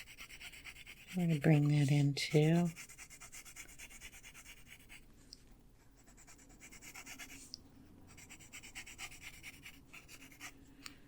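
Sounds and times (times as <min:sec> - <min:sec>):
pencil scratching on paper: 0:00.0 - 0:05.1, 0:06.0 - 0:07.5, 0:08.1 - 0:10.6.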